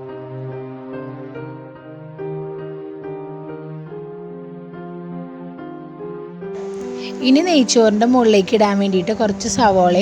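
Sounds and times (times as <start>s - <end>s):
soft piano-like melody: 0.0s - 10.0s.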